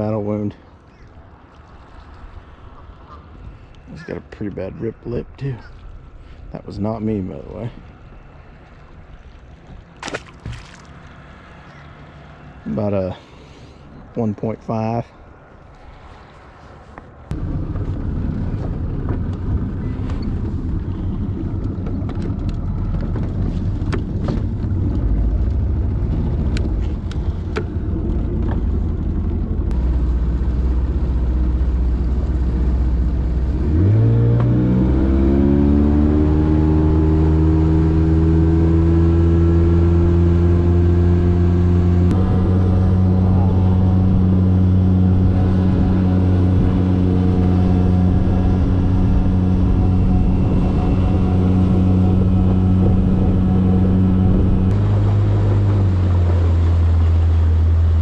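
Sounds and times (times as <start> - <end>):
wind and water noise: 0.0 - 58.0
outboard motor revving: 6.8 - 13.9, 17.3 - 58.0.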